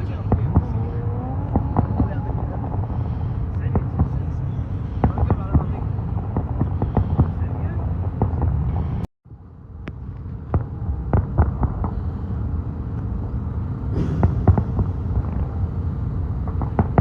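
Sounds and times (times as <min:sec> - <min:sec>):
fireworks bangs: 0:00.0 - 0:09.1, 0:09.9 - 0:12.7, 0:13.8 - 0:17.0
low rumble: 0:00.0 - 0:17.0.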